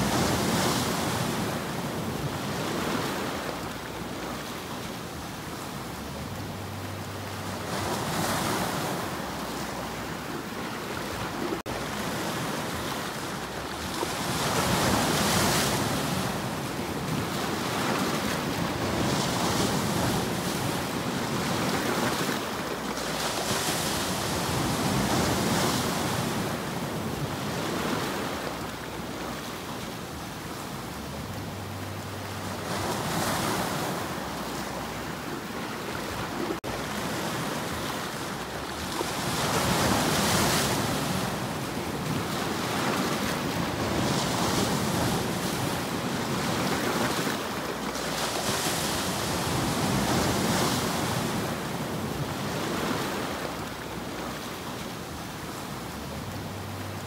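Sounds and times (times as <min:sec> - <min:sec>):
sea waves breaking over rocks: 0:00.0 - 0:57.0.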